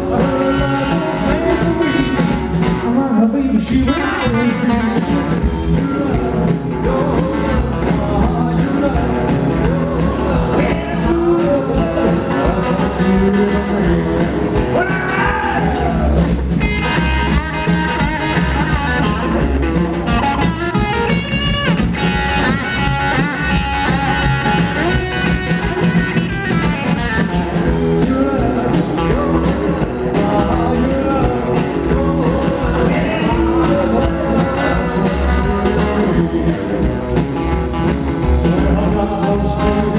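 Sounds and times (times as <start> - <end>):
man singing: 0.0 - 25.6, 26.2 - 39.9
rock and roll band playing: 0.0 - 39.9.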